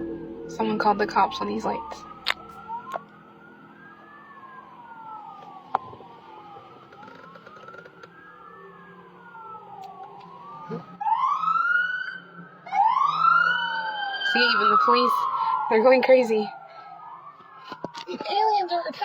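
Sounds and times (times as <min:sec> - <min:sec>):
police sirens wailing: 0:00.0 - 0:19.0.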